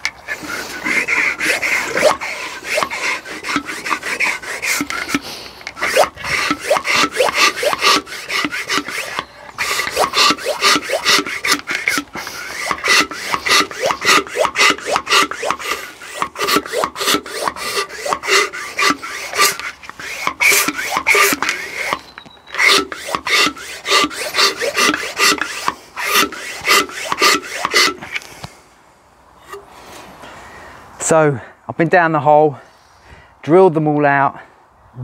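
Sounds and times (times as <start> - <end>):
hand pump piston squeaking: 0.0 - 28.3.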